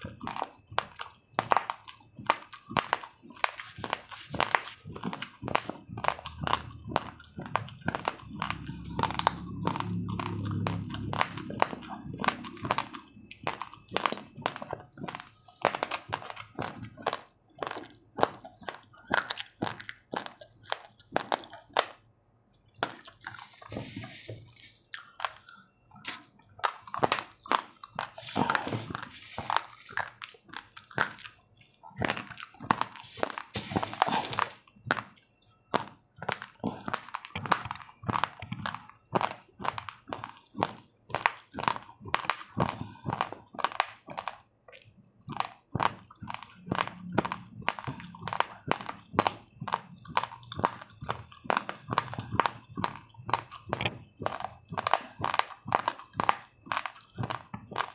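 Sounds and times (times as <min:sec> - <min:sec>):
chewing raw rice crunches: 0:00.0 - 0:57.9.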